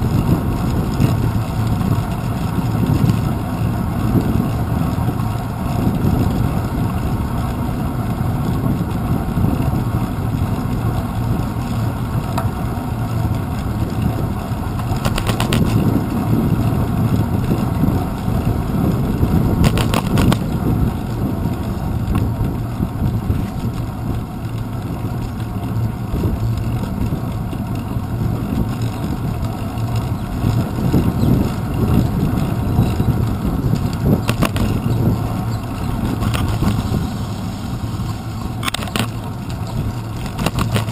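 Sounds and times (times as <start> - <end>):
bicycle road vibration: 0.0 - 40.9
wind rumble: 0.0 - 40.9.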